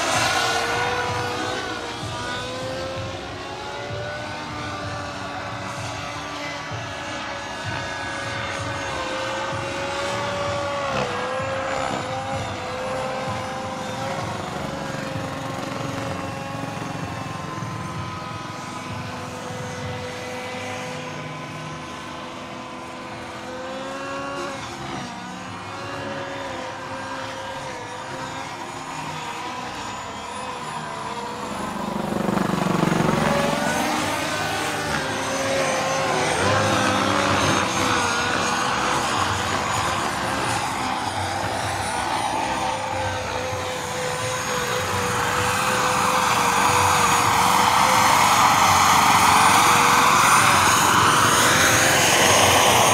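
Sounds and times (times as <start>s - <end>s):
helicopter rotor noise: 0.0s - 52.9s
model turbine whine: 0.0s - 52.9s.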